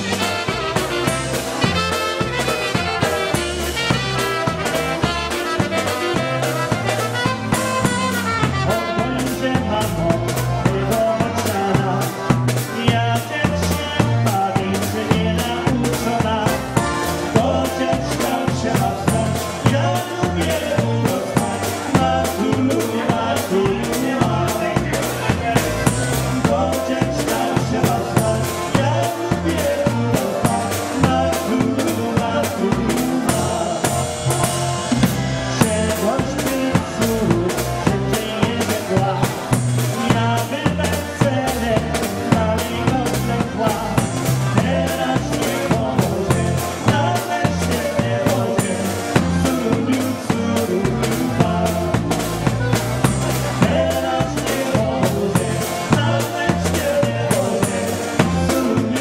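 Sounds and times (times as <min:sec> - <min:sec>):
drum kit beat: 0:00.0 - 0:59.0
man singing into a microphone: 0:00.0 - 0:59.0
polka band playing: 0:00.0 - 0:59.0.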